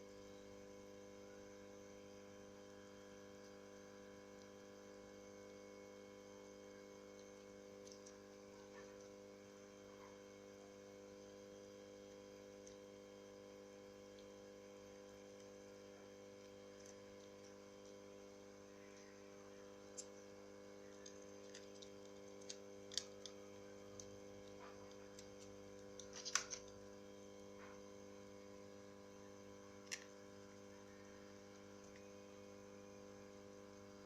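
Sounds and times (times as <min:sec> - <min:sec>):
faint electrical hum: 0:00.0 - 0:34.0.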